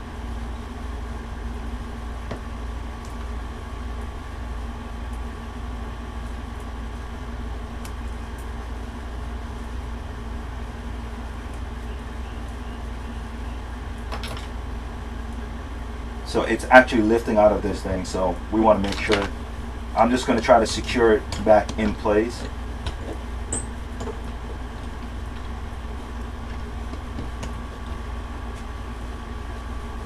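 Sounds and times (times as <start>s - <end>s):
low background hum: 0.0s - 30.0s.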